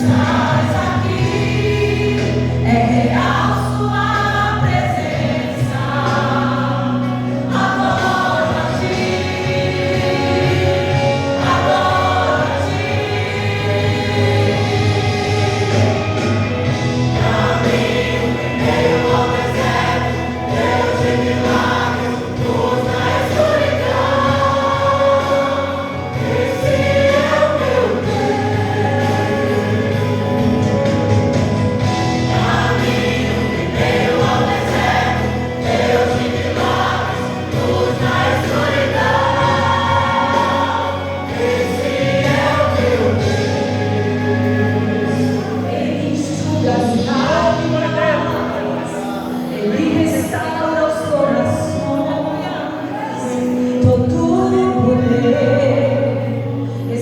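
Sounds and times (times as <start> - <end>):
low instrumental accompaniment: 0.0 - 57.0
vocal group singing in harmony: 0.0 - 57.0.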